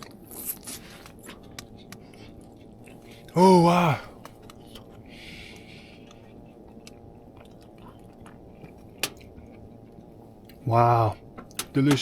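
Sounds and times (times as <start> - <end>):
person chewing: 0.0 - 3.3, 4.2 - 10.6.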